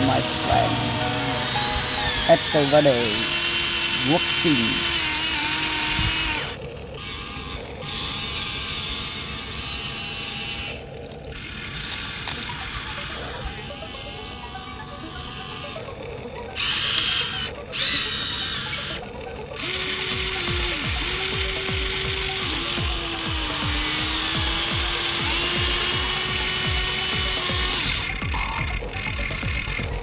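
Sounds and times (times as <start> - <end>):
toy excavator digging into sand: 0.0 - 15.9, 16.6 - 28.2
steady motor whine: 0.0 - 30.0
toy excavator motors whirring: 0.0 - 30.0.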